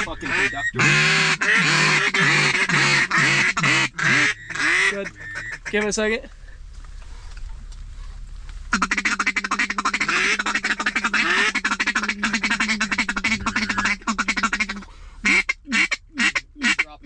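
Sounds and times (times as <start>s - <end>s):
duck call loud quacks: 0.0s - 5.9s, 8.7s - 17.0s
duck call feed chatter: 0.0s - 6.0s, 8.7s - 17.0s.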